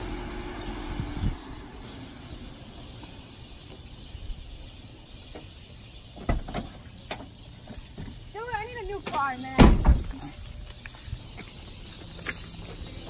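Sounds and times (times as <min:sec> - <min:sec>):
quiet street background: 0:00.0 - 0:13.0.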